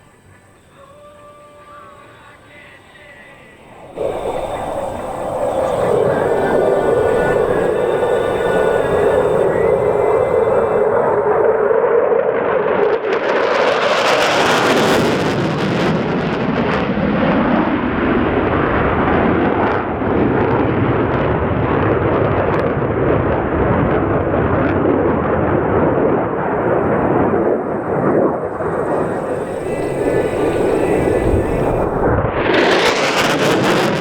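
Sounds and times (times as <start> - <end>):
loud jet engine noise: 3.2 - 21.8, 22.6 - 34.0.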